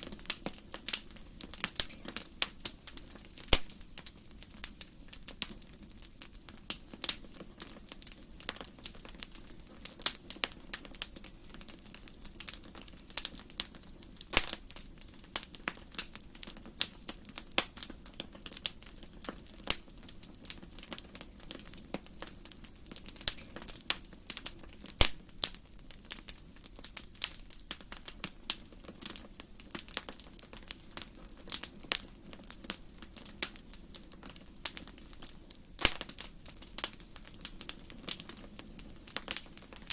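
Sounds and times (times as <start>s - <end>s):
low steady hiss: 0.0s - 39.9s
wood fire crackling and popping: 0.0s - 39.9s.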